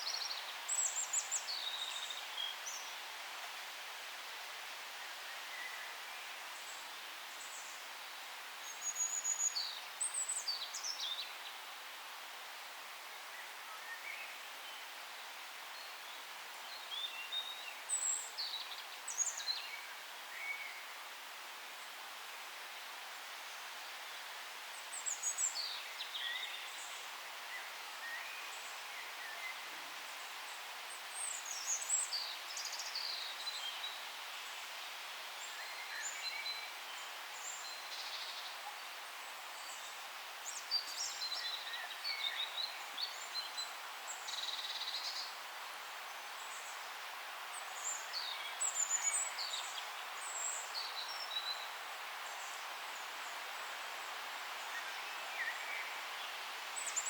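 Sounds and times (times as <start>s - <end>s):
background hiss: 0.0s - 57.0s
songbirds chirping: 0.0s - 57.0s.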